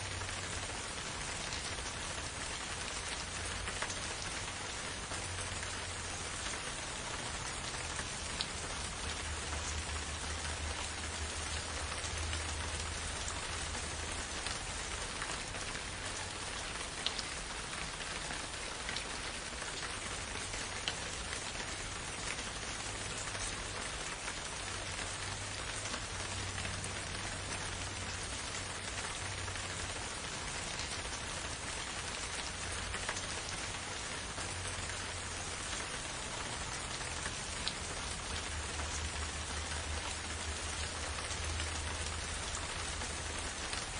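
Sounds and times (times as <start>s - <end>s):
steady rain: 0.0s - 43.9s
raindrop ticks: 1.2s - 43.9s.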